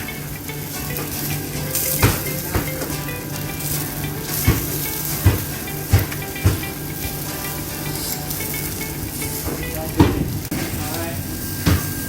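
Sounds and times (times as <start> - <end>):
chicken sizzling on grill: 0.0 - 12.0.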